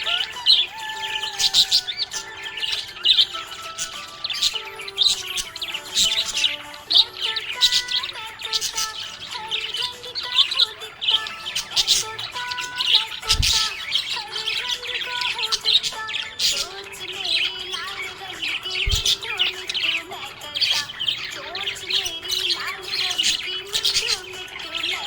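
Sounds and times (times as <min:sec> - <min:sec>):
parrots chirping and chattering: 0:00.0 - 0:25.0.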